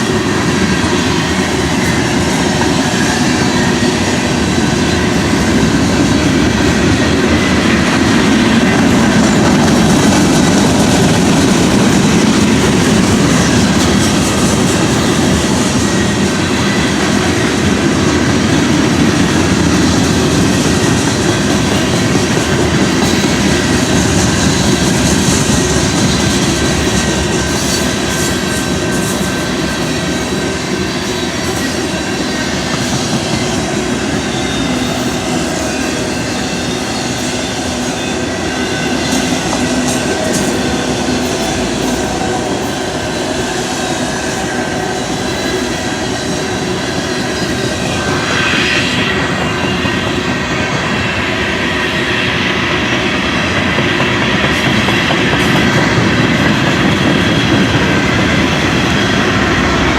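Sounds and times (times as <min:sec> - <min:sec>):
train wheels rumbling and clacking: 0:00.0 - 0:59.9.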